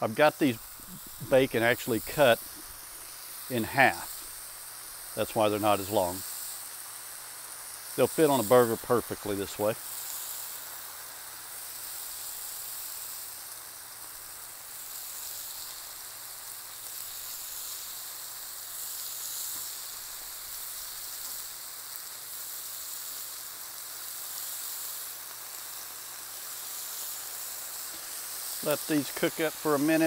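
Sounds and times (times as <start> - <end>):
bacon sizzling on a griddle: 0.0 - 30.0.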